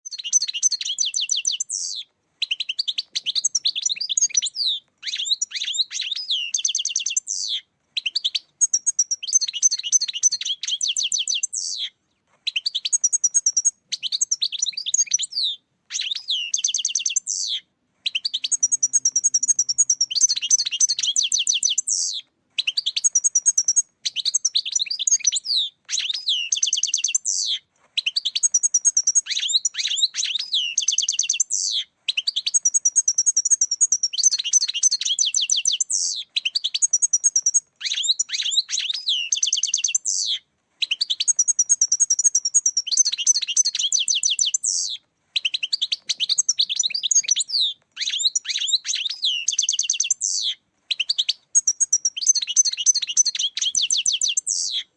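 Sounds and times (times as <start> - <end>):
finch twittering and trilling: 0.1 - 11.9, 12.5 - 54.8.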